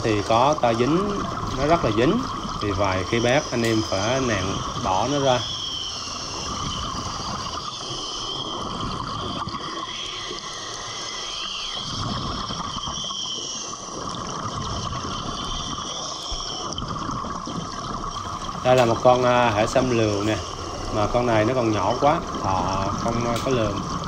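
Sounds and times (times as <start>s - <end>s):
underwater bubbles gurgling: 0.0s - 24.0s.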